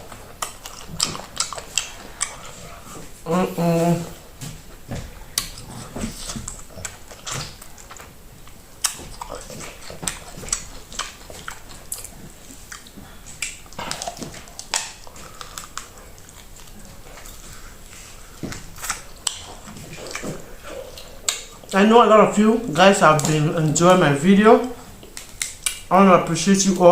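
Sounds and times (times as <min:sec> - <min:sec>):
person chewing and smacking: 0:00.0 - 0:26.0.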